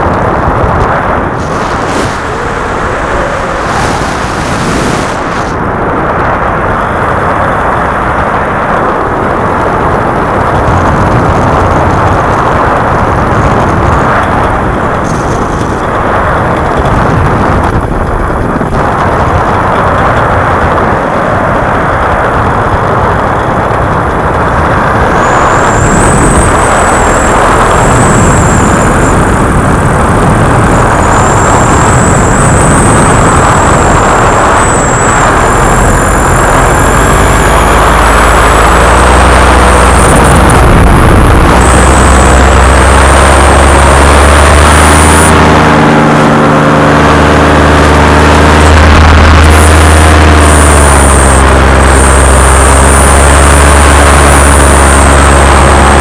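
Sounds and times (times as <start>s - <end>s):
paramotor engine running: 0.0s - 56.0s
thin wavering high whine: 0.0s - 56.0s
wind rushing over microphone: 0.0s - 56.0s.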